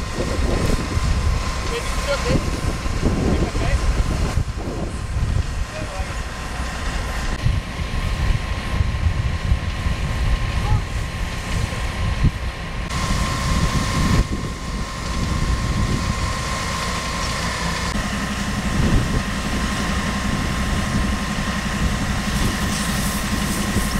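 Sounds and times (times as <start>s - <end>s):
steady hum: 0.0s - 23.9s
truck engine idling: 0.0s - 23.9s.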